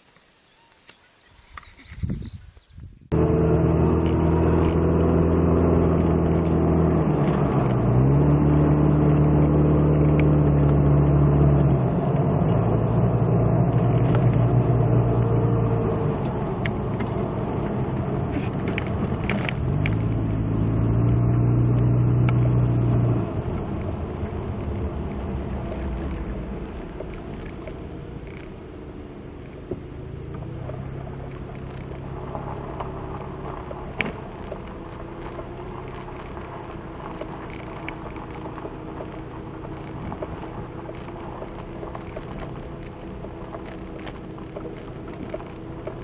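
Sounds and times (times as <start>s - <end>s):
car engine hum: 0.0s - 46.0s
road noise: 0.0s - 46.0s.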